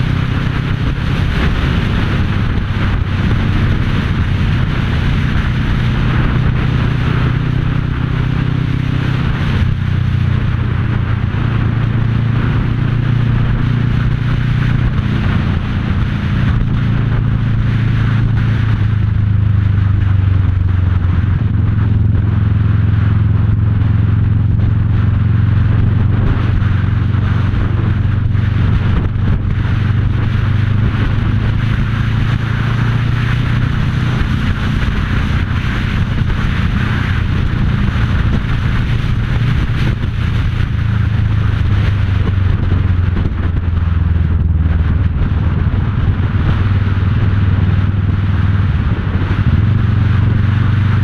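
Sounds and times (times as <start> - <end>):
motorcycle engine cruising: 0.0 - 51.0
wind on microphone: 0.0 - 51.0.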